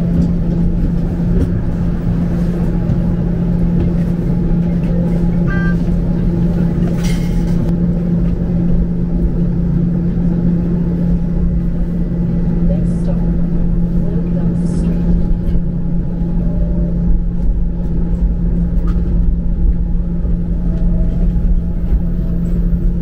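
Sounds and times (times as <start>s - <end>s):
streetcar hum and rumble: 0.0s - 23.0s.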